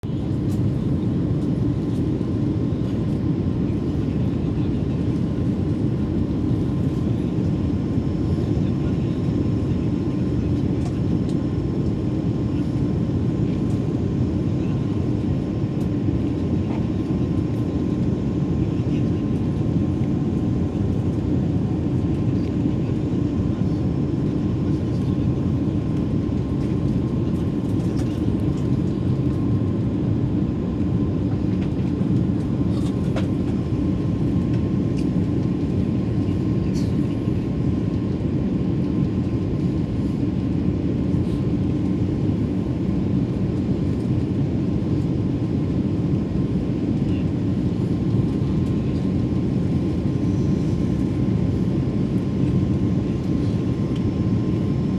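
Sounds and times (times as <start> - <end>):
airplane cabin drone: 0.0 - 54.9.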